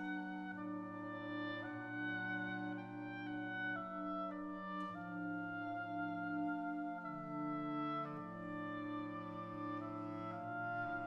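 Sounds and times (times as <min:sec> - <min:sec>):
wind band playing chords: 0:00.0 - 0:11.0.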